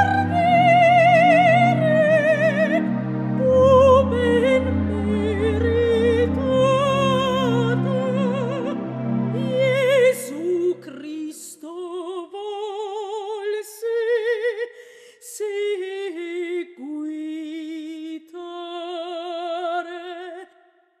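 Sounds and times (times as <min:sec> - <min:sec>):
woman singing unaccompanied: 0:00.0 - 0:08.8, 0:09.4 - 0:20.6.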